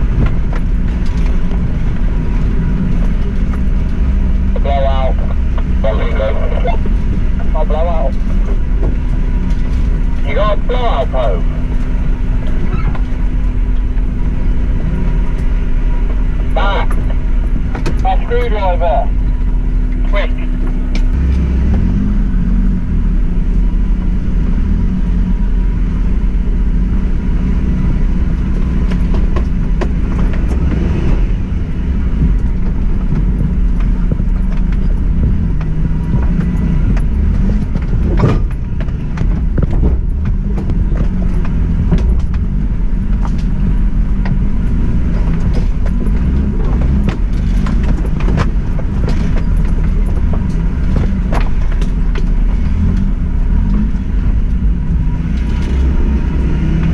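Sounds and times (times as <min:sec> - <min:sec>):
car engine running at low revs: 0:00.0 - 0:56.9
knocks and clicks from rough track: 0:00.0 - 0:56.9.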